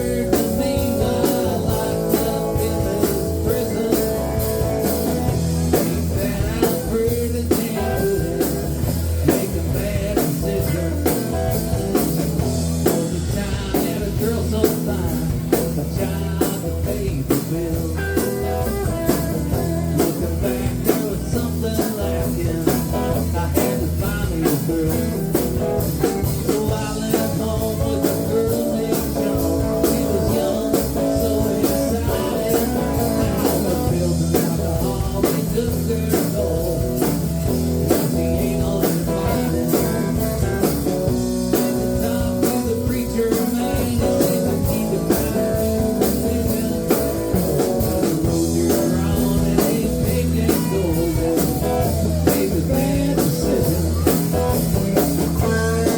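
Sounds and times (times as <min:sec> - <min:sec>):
bass: 0:00.0 - 0:55.9
drum kit beat: 0:00.0 - 0:55.9
guitar: 0:00.0 - 0:55.9.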